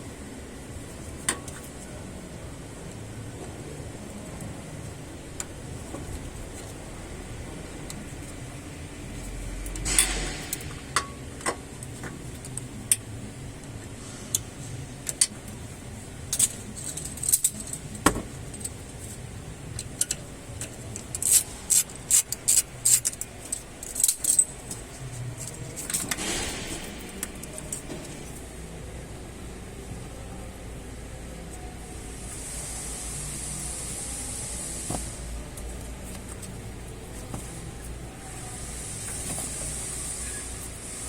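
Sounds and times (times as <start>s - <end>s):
low background hum: 0.0s - 41.0s.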